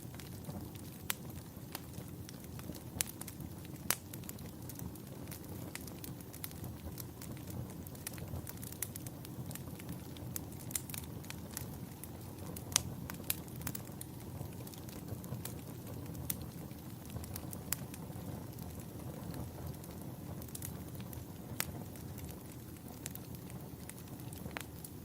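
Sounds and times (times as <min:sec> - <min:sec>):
rumble of flames: 0:00.0 - 0:25.0
wood crackling and popping: 0:00.0 - 0:25.0.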